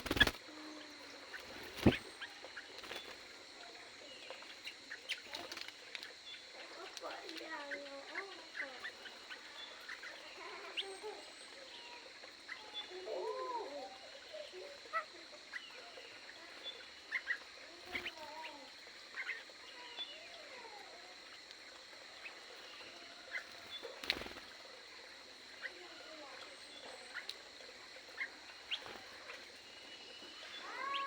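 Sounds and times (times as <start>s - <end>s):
birds calling and chirping: 0.0s - 31.0s.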